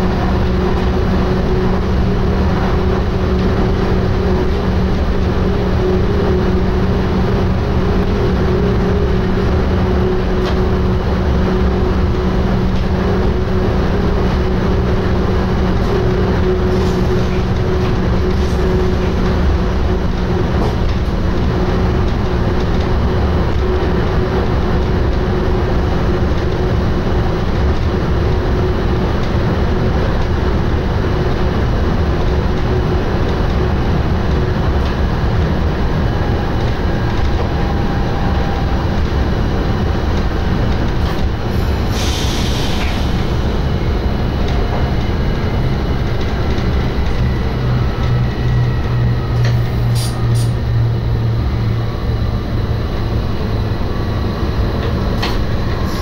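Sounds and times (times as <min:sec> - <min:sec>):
electric train hum: 0:00.0 - 0:56.0
train wheels rumbling on track: 0:00.0 - 0:56.0.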